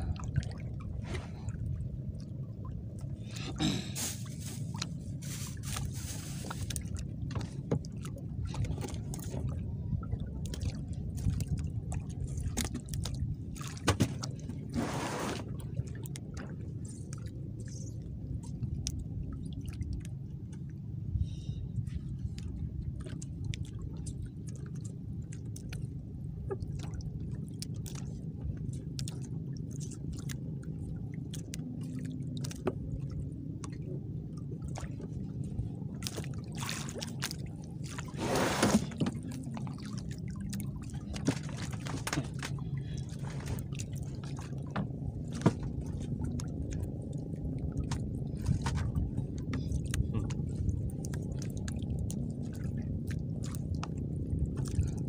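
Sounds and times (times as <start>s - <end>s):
steady low rumble: 0.0s - 55.0s
water sloshing against boat: 0.0s - 55.0s.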